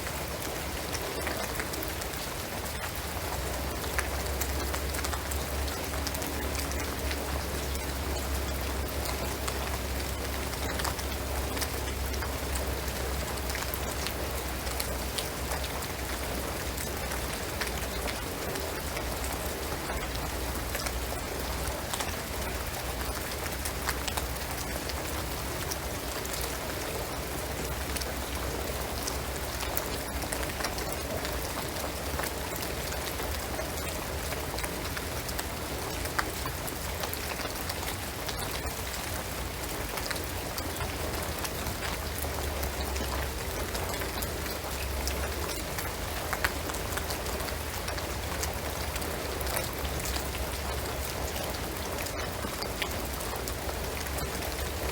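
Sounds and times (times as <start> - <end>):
rain on a roof: 0.0 - 54.9.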